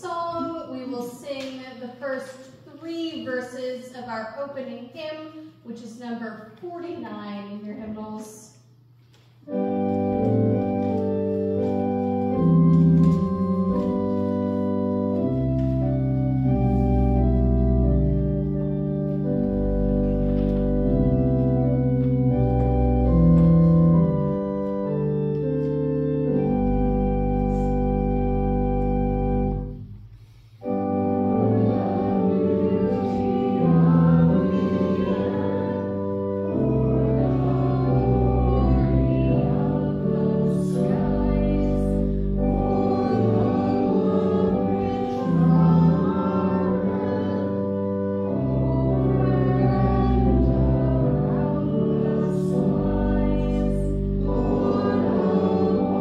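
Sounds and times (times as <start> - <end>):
church organ chords: 9.4 - 56.0
congregation singing a hymn: 9.5 - 29.8, 30.6 - 56.0.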